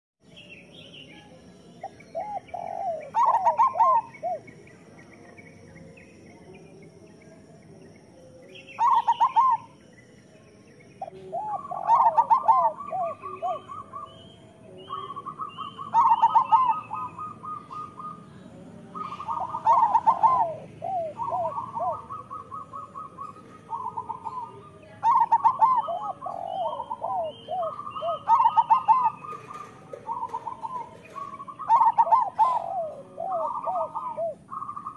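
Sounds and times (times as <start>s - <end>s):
small birds trilling and chirping: 0.2s - 34.9s
doves cooing: 1.8s - 5.3s, 8.5s - 10.0s, 11.0s - 34.9s.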